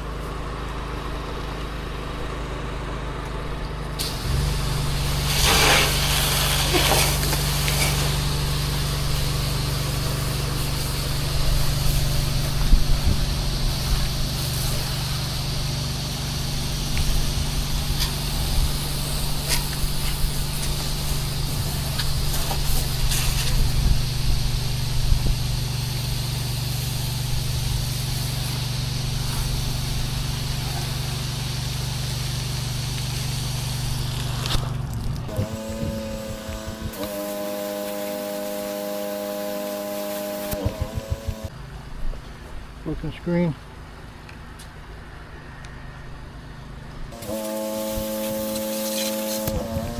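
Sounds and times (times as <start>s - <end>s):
pressure washer engine running: 0.0s - 41.7s, 47.1s - 49.9s
water spraying hiss: 3.9s - 41.6s, 47.1s - 49.9s.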